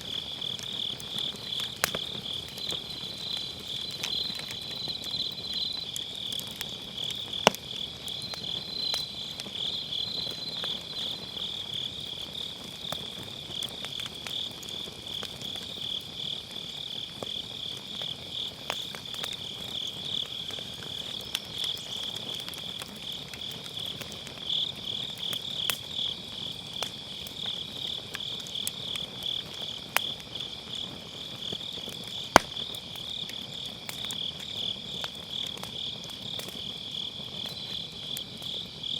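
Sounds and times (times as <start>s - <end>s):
burning firewood popping: 0.0s - 38.9s
crickets chirring: 0.0s - 38.9s.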